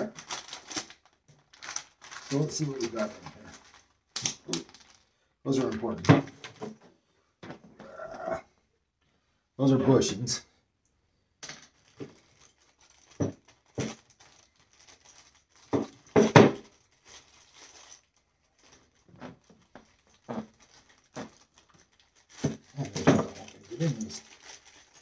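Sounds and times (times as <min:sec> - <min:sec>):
plastic bags crinkling: 0:00.0 - 0:06.7, 0:11.5 - 0:25.0.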